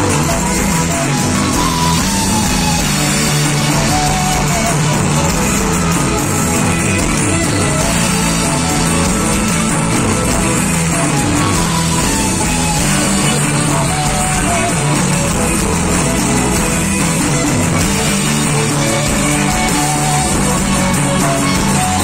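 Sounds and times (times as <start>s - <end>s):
amplified live band music: 0.0s - 22.0s.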